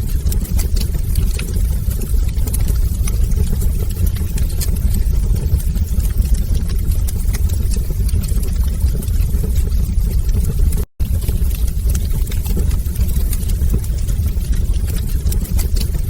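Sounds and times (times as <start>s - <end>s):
fire roaring in a fireplace: 0.0s - 16.0s
fire crackles and pops: 0.2s - 16.0s.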